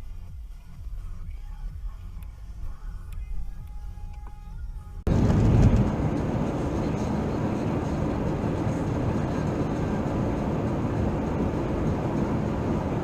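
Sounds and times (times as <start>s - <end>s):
car engine and tyre noise: 0.0s - 13.0s
faint music: 0.0s - 13.0s.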